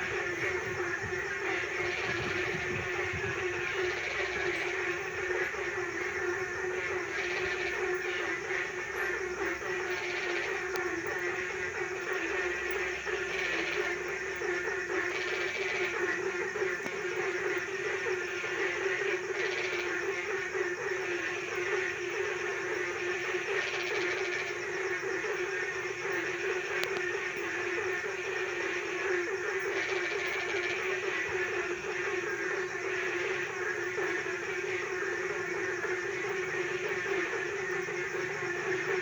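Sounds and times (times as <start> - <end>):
frogs calling in chorus: 0.0 - 39.0
higher frog chorus: 0.0 - 39.0.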